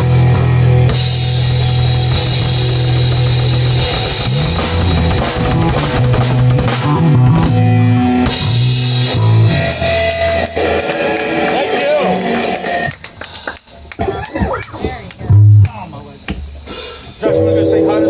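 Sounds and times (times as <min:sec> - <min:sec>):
rock band playing live: 0:00.0 - 0:13.2, 0:16.5 - 0:18.0.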